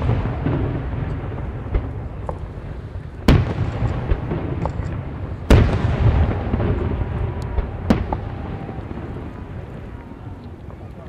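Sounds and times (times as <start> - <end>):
firework shells booming: 0.0 - 10.9
low rumbling echo: 0.0 - 11.0.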